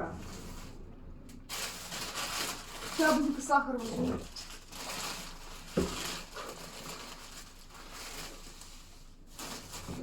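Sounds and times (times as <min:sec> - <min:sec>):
handling rustling and shuffling: 0:00.0 - 0:10.0.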